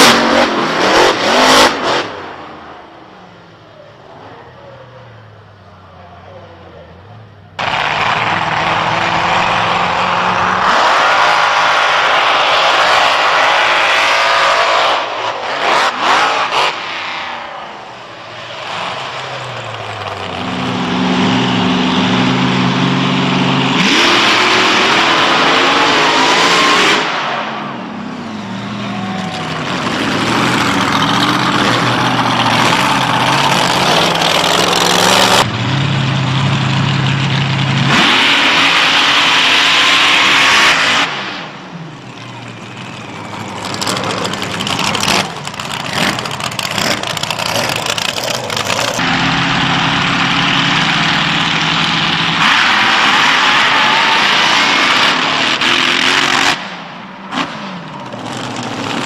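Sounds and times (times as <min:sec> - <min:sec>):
racing engines revving: 0:00.0 - 0:02.9, 0:07.0 - 0:59.0.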